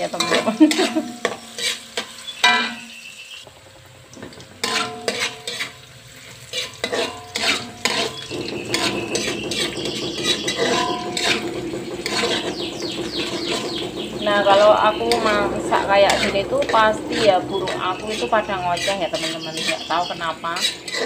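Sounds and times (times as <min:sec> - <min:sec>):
metal spatula scraping a wok: 0:00.0 - 0:03.0, 0:04.6 - 0:21.0
light oil sizzle: 0:00.0 - 0:21.0.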